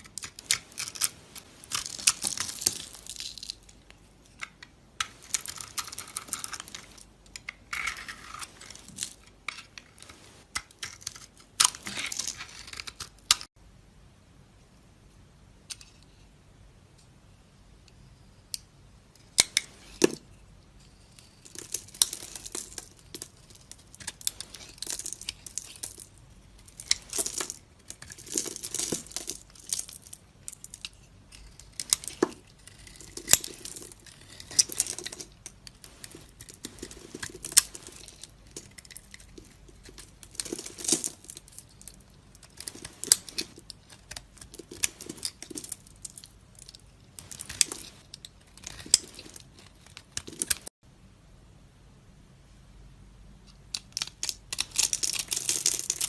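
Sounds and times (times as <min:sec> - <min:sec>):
knife carving dry soap: 0:00.0 - 0:13.6, 0:18.0 - 0:50.8, 0:53.5 - 0:56.0.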